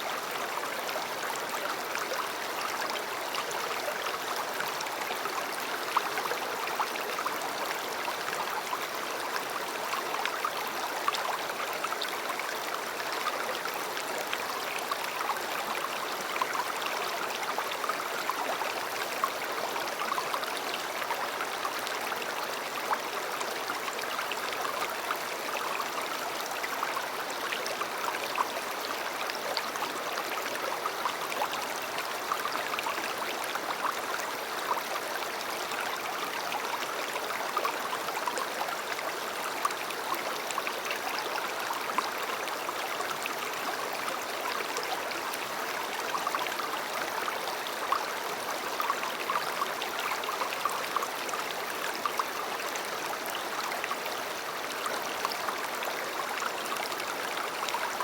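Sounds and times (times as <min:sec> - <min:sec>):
river water flowing over stones: 0:00.0 - 0:58.0.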